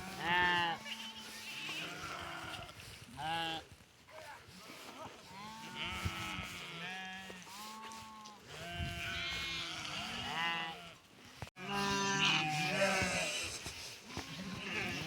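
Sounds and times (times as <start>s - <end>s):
sheep bleating: 0.0s - 3.7s, 5.2s - 15.0s.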